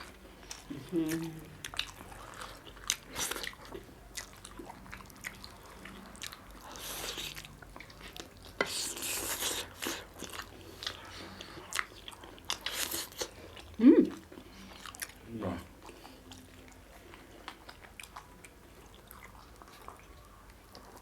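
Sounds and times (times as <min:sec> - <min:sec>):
wet chewing and biting: 0:00.0 - 0:21.0.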